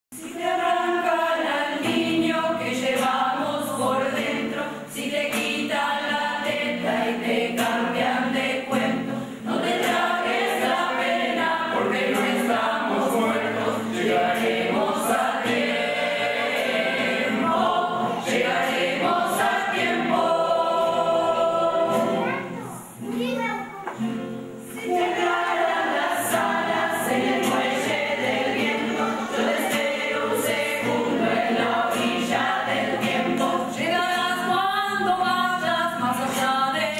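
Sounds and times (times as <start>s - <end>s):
choir singing chords: 0.2s - 22.5s, 24.6s - 36.5s.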